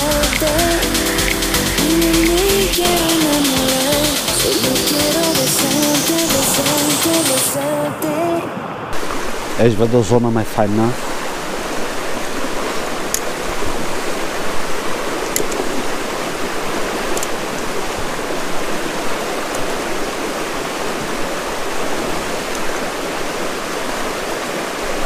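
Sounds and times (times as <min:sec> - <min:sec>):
river running over stones: 0:00.0 - 0:25.0.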